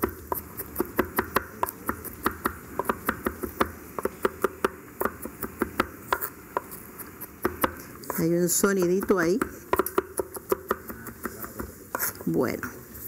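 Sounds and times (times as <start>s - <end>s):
knife chopping on wooden board: 0.0s - 12.2s.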